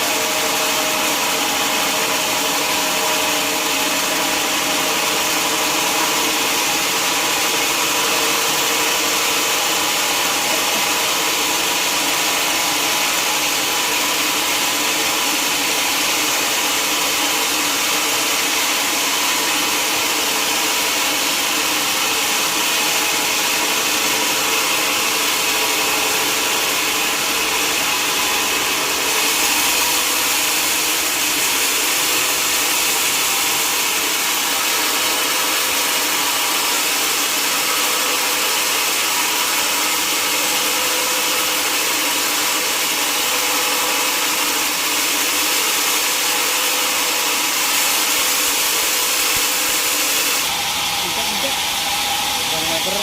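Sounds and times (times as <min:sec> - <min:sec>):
sawmill saw cutting log: 0:00.0 - 0:53.0.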